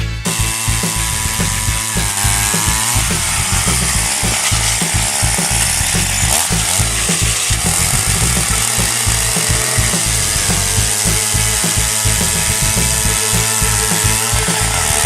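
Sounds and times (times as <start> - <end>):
music with low beat: 0.0 - 15.0
small petrol engine revving: 0.0 - 15.0.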